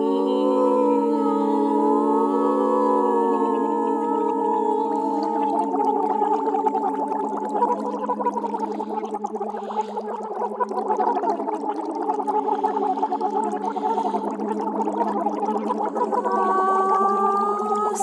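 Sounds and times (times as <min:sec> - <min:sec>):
woman singing with gargling flutter: 0:00.0 - 0:18.0.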